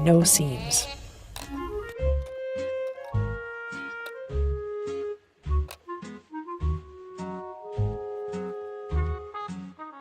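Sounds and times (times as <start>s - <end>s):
instrumental music with bouncy beat: 1.4s - 10.0s.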